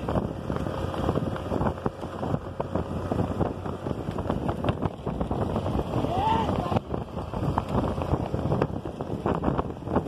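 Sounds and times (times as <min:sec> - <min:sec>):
vehicle rumble on dirt track: 0:00.0 - 0:10.0
wind buffeting microphone: 0:00.0 - 0:10.0.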